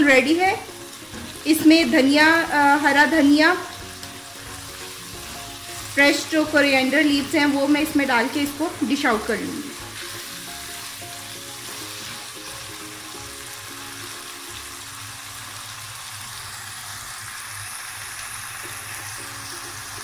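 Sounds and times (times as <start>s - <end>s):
soft music: 0.0s - 16.1s, 18.4s - 20.0s
meat sizzling in oil: 0.0s - 20.0s.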